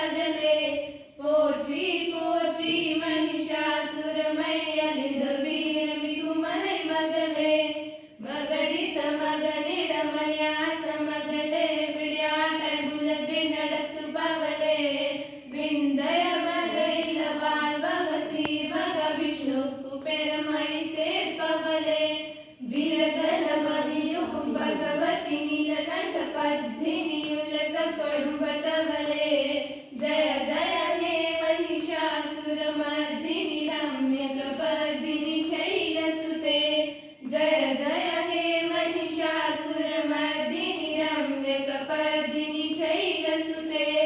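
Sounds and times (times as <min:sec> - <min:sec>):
girls singing unaccompanied: 0:00.0 - 0:44.0.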